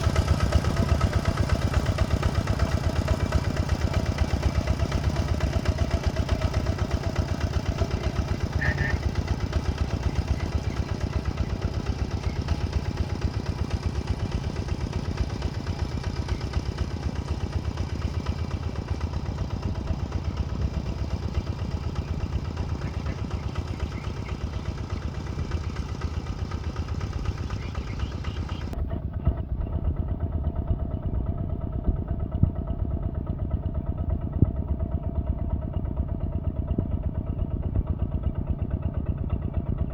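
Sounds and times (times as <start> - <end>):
heavy machine engine chugging: 0.0 - 39.9.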